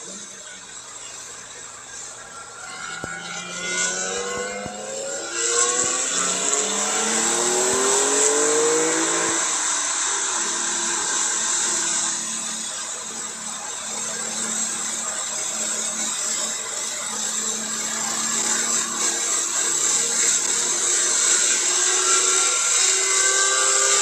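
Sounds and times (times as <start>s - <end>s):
car engine accelerating hard: 2.5s - 24.0s.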